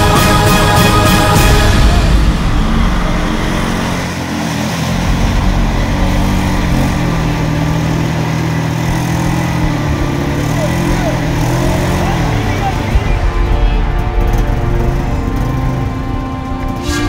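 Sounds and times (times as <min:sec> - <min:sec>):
atv engine revving: 0:00.0 - 0:17.0
background music: 0:00.0 - 0:17.0.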